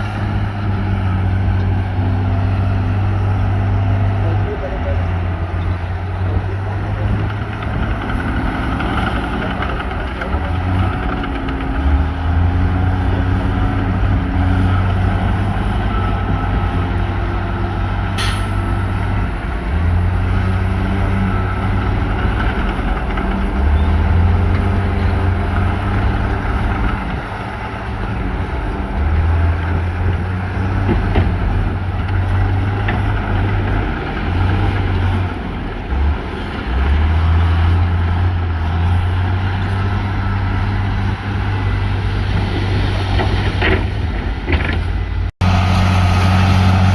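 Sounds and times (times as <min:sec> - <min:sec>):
heavy machinery diesel engines: 0:00.0 - 0:46.9.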